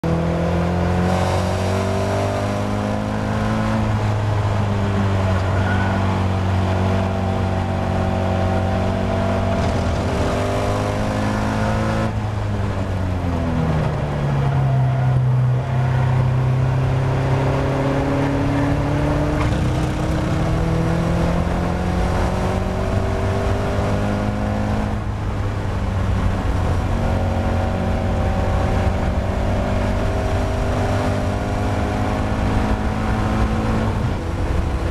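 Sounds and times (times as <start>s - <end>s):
race car engine accelerating: 0.0s - 34.9s.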